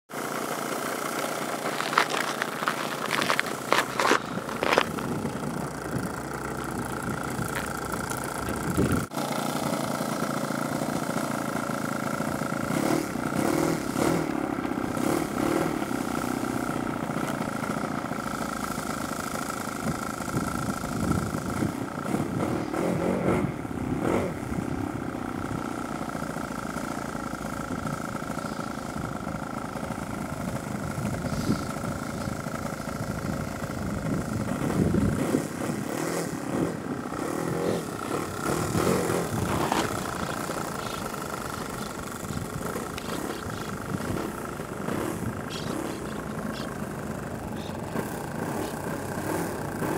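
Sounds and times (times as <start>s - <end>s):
engine running: 0.1s - 49.9s.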